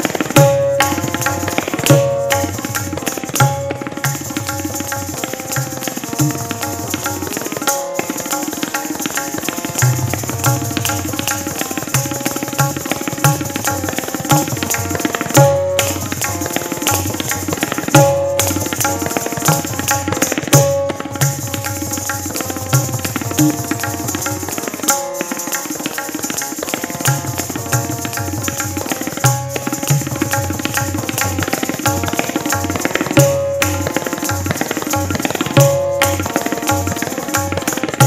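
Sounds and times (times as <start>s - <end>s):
tabla playing: 0.0s - 38.0s.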